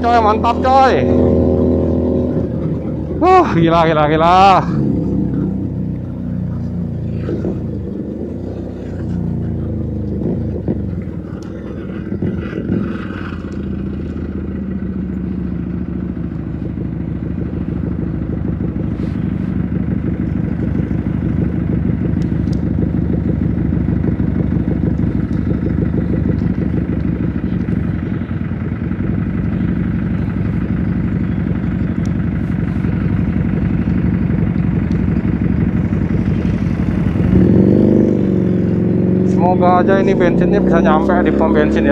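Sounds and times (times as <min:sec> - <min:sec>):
motorcycle exhaust while riding: 0:00.0 - 0:41.9.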